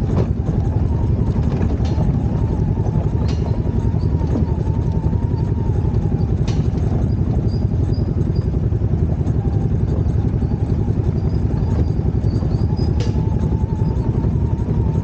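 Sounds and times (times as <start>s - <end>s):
faint wavering whine: 0.0s - 15.0s
off-road vehicle engine droning: 0.0s - 15.0s.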